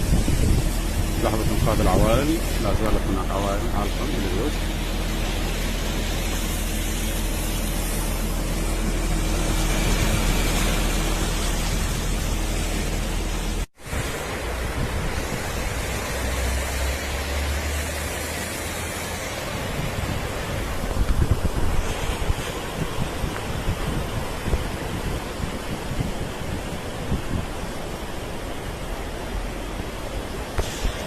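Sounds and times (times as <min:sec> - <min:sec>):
rain and wind storm: 0:00.0 - 0:31.0.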